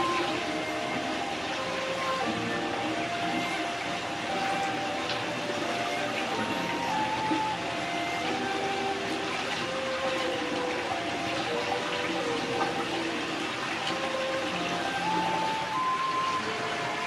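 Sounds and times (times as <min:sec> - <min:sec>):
water pouring and splashing: 0:00.0 - 0:17.0.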